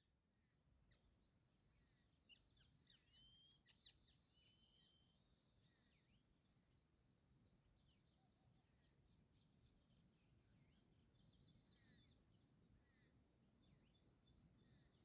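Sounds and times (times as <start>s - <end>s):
faint bird chirps and whistles: 0.6s - 15.0s.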